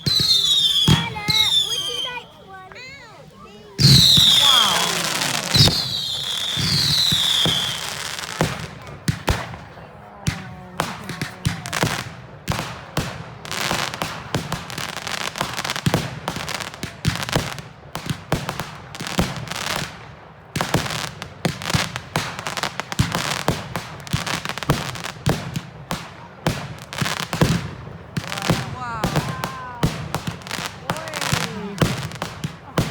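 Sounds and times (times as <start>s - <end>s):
fireworks bangs and crackling: 0.0s - 32.9s.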